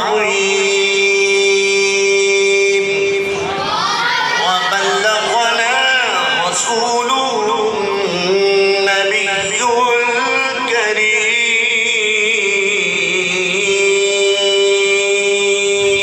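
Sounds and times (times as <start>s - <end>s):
man chanting into microphone: 0.0s - 3.5s, 4.3s - 16.0s.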